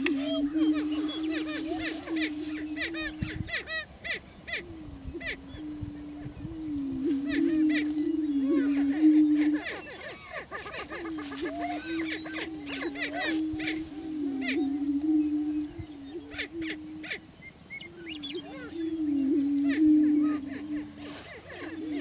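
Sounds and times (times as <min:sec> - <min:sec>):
prairie chickens booming: 0:00.0 - 0:22.0.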